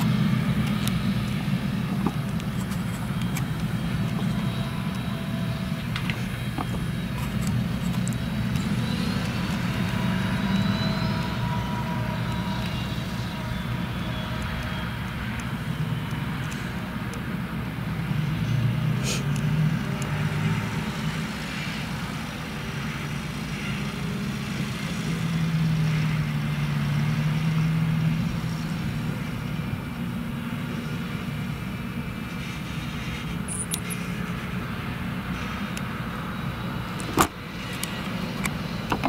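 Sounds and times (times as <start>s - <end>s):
diesel farm machinery passing: 0.0s - 39.0s.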